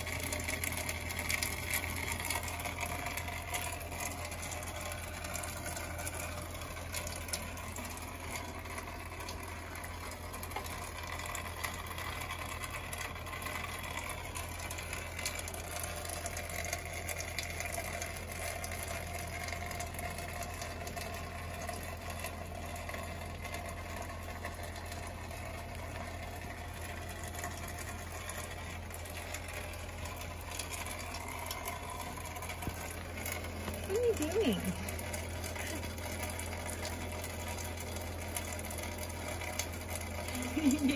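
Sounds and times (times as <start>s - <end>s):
light rain falling: 0.0s - 40.9s.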